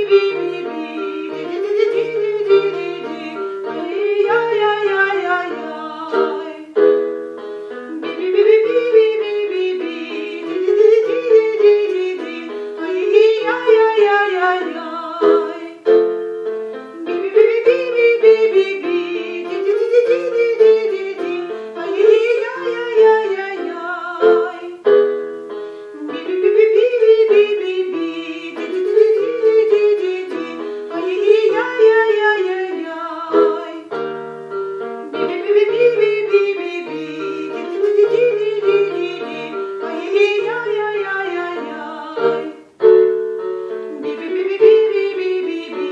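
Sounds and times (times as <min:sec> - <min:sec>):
piano: 0:00.0 - 0:45.9.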